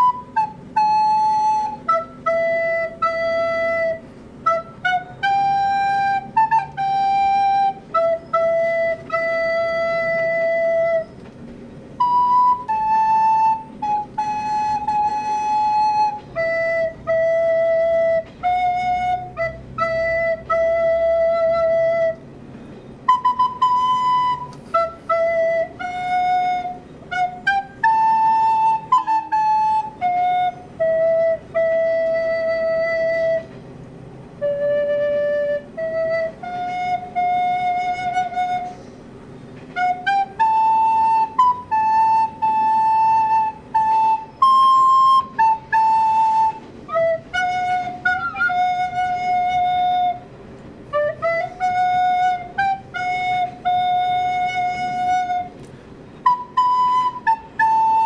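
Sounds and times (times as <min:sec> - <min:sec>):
recorder melody: 0:00.0 - 0:33.6, 0:34.3 - 0:58.0.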